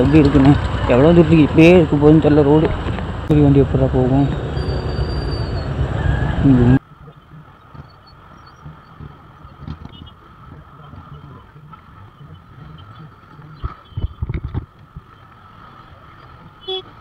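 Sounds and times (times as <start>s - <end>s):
motorcycle traffic rumble: 0.0s - 17.0s.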